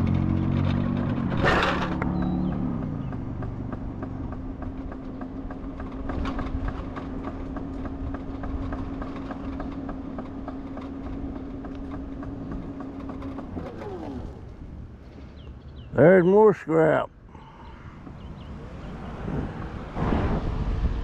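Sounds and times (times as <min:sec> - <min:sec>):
vehicle engine and road drone: 0:00.0 - 0:21.0.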